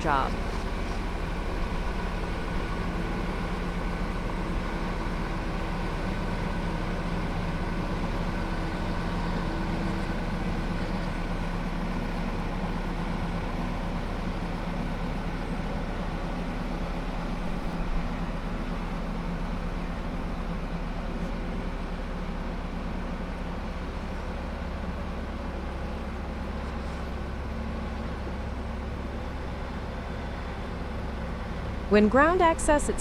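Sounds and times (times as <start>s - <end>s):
heavy machine engine humming: 0.0s - 33.0s.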